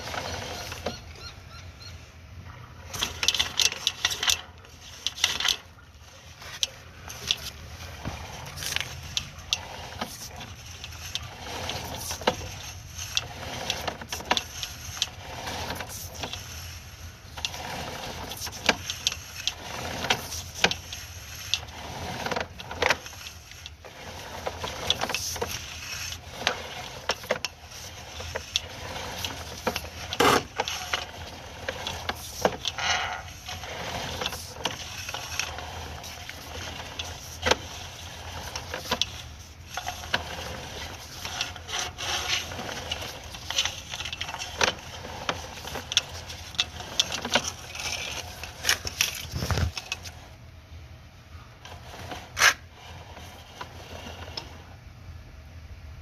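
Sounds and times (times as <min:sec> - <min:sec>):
objects knocking and scraping: 0:00.0 - 0:01.2, 0:02.5 - 0:50.2.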